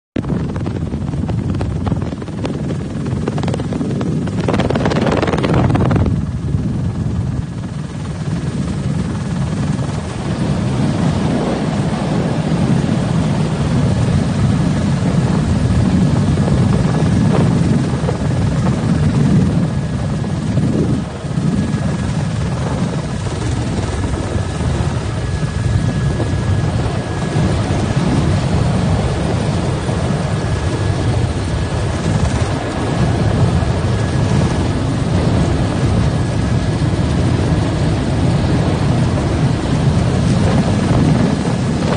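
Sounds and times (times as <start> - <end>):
helicopter engine and rotor noise: 0.2 - 41.9.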